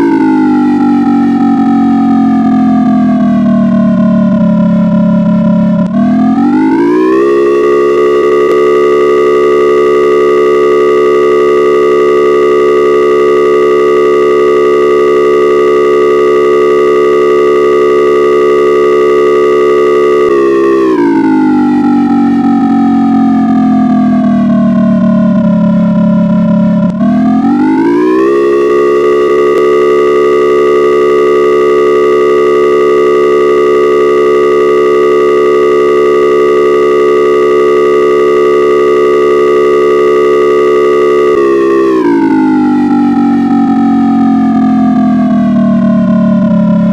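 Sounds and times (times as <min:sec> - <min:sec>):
siren alarm: 0:00.0 - 0:46.9.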